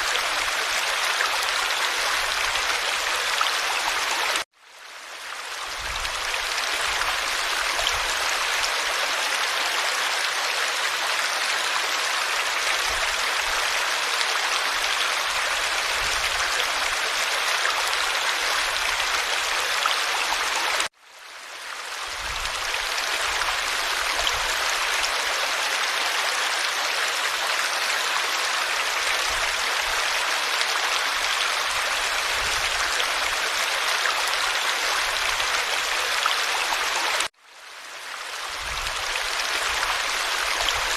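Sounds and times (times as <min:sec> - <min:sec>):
stream water flowing and splashing: 0:00.0 - 0:40.9.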